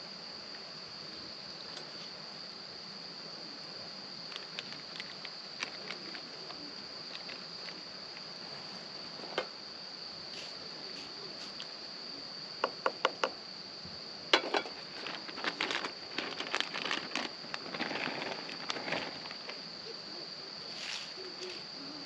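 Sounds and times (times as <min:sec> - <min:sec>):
high insect chorus: 0:00.0 - 0:22.0.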